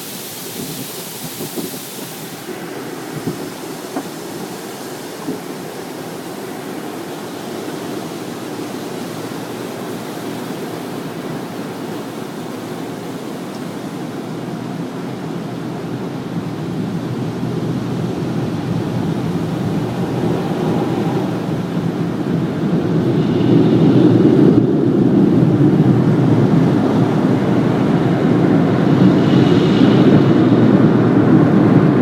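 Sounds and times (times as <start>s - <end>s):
car wash rushing noise: 0.0s - 32.0s.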